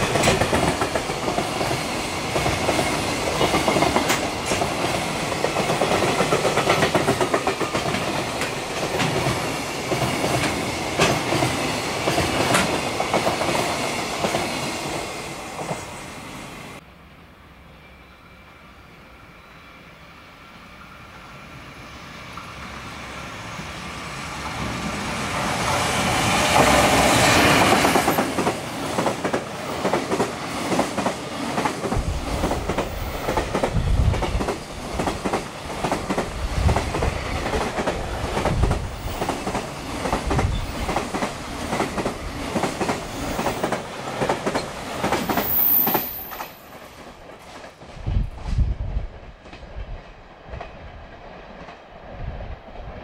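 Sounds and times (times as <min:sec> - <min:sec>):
freight train passing at high speed: 0:00.0 - 0:53.0.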